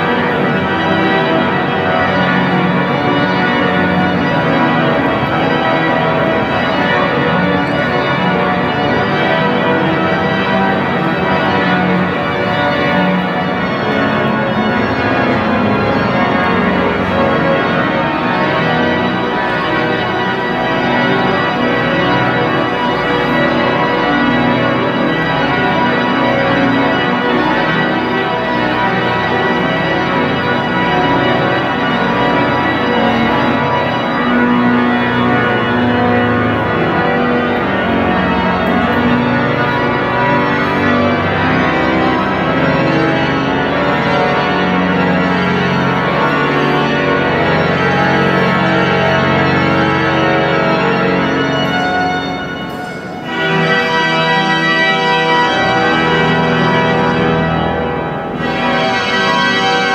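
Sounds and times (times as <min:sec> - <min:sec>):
pipe organ full chords: 0:00.0 - 0:59.9.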